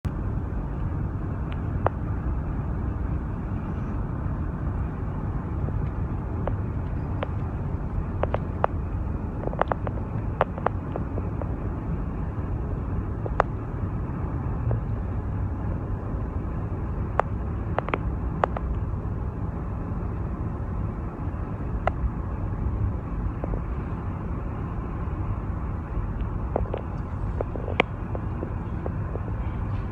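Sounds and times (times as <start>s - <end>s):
car road and engine noise: 0.0s - 29.9s.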